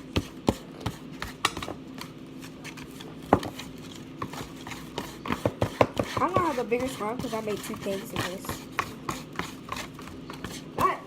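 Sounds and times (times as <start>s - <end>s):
spoons scraping mixing dishes: 0.2s - 10.8s.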